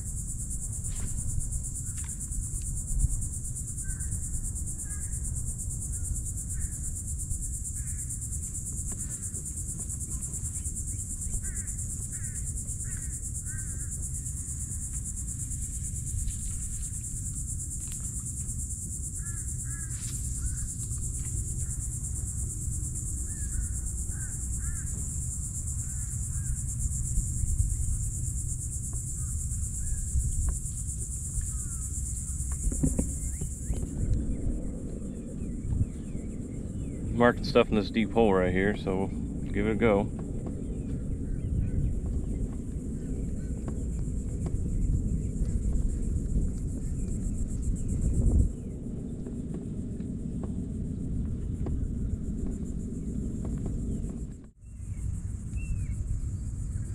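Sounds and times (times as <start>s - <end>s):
insects droning: 0.0s - 56.9s
low steady rumble: 0.0s - 56.9s.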